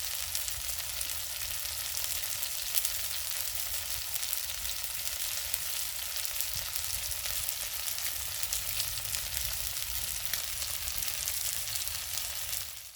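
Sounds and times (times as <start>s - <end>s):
food sizzling on wood fire: 0.0s - 12.9s.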